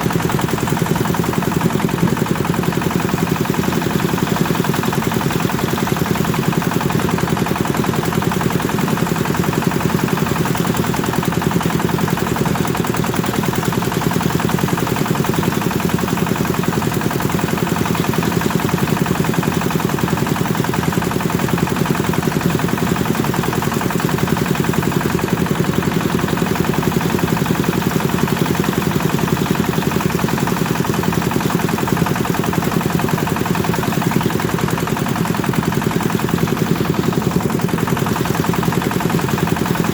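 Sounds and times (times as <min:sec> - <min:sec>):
diesel engine driving thresher: 0:00.0 - 0:39.9.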